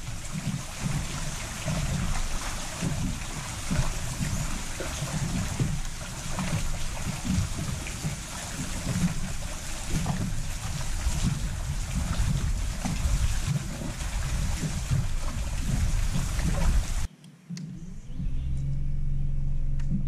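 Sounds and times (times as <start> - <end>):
water lapping against boat hull: 0.0 - 17.1
wind buffeting microphone: 0.0 - 17.1.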